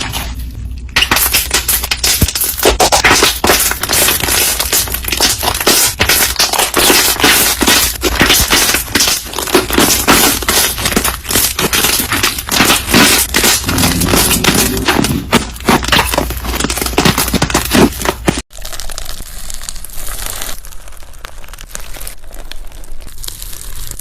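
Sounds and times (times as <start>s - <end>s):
slime crackling and popping: 0.0s - 24.0s.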